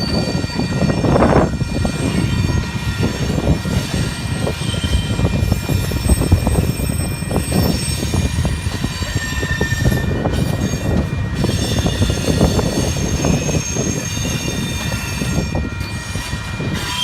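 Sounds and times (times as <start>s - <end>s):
freight train rumbling: 0.0s - 17.0s
high squeal of wheels on rail: 0.0s - 17.0s.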